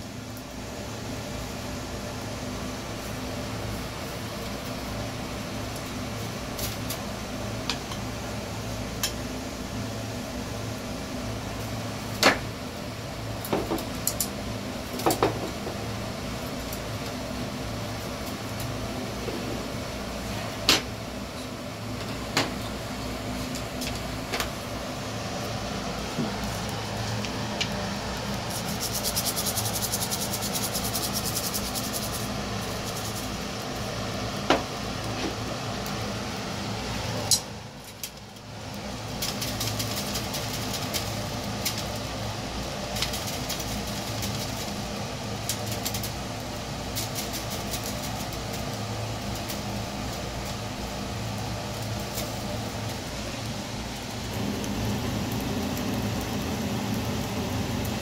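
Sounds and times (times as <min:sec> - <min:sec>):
eels sizzling on a grill: 0:00.0 - 0:58.0
ventilation fan hum: 0:00.0 - 0:58.0.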